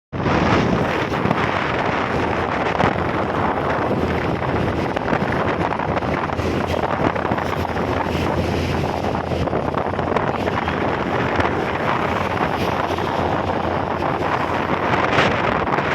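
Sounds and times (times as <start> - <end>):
moving vehicle running noise: 0.1 - 15.9
wind buffeting microphone: 0.1 - 15.9.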